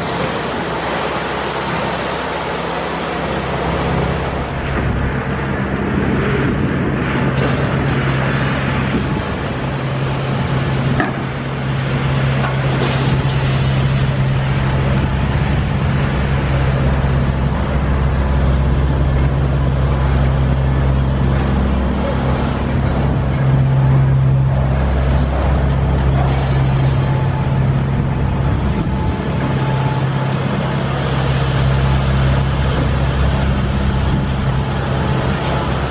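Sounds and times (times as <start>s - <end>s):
machinery engine droning: 0.0s - 35.9s
site and traffic noise: 0.0s - 35.9s.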